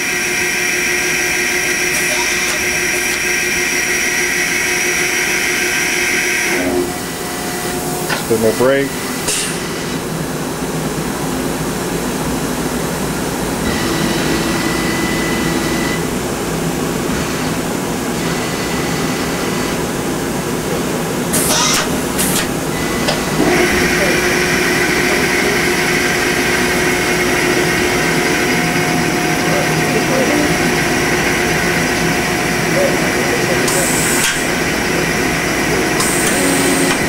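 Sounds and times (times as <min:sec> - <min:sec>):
lathe mechanical hum: 0:00.0 - 0:37.0
loud steady whine: 0:00.0 - 0:37.0.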